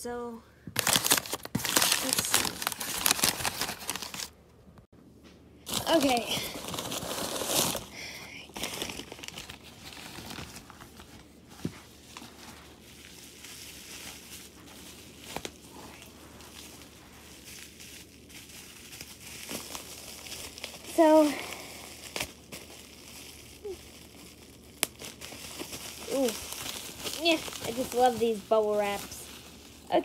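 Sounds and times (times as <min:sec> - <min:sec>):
bubble wrap crinkling and rustling: 0:00.7 - 0:04.4, 0:05.7 - 0:30.0.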